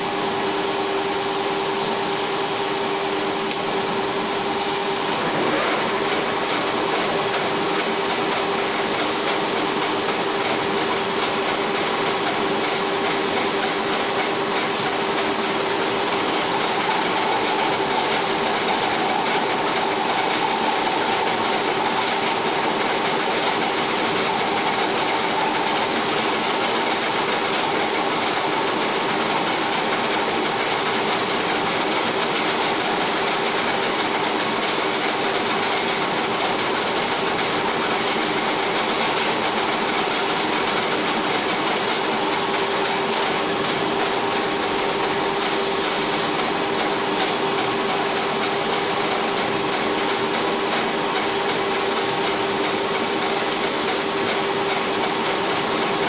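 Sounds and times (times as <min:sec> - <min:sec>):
lathe running: 0:00.0 - 0:56.0.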